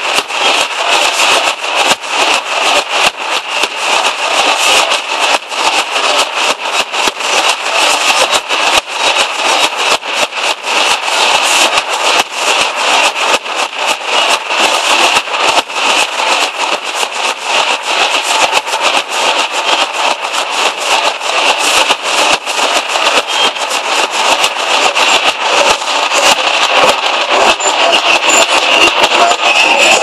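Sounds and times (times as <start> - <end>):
high-pitched drums: 0.0 - 30.0.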